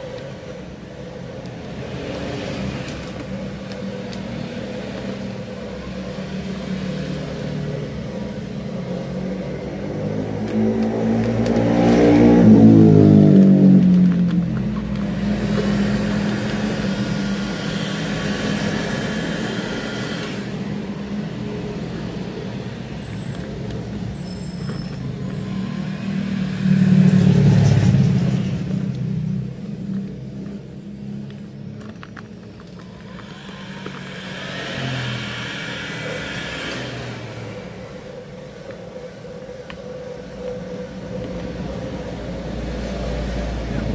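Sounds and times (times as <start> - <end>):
vehicle engines passing by: 0.0 - 43.9.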